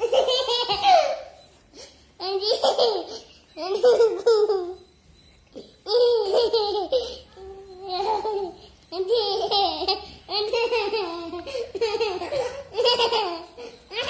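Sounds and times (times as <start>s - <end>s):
child laughing high-pitched: 0.0s - 4.8s, 5.6s - 14.0s.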